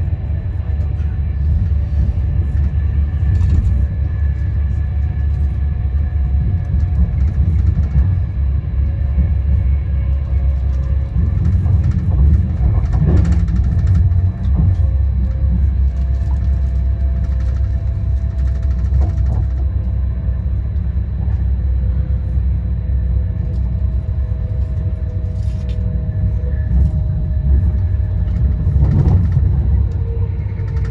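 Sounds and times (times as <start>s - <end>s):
train rumbling: 0.0s - 30.9s.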